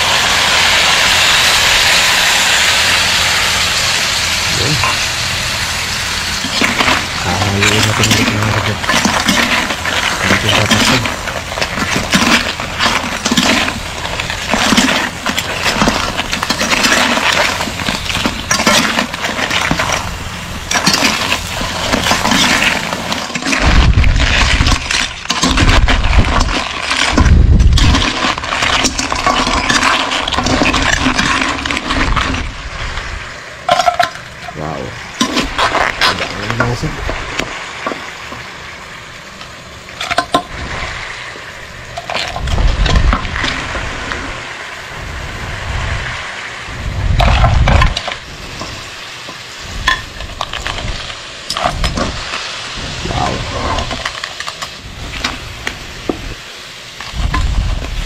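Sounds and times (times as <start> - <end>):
heavy low rumbles: 0.0 - 33.5, 34.3 - 49.0, 49.6 - 54.1.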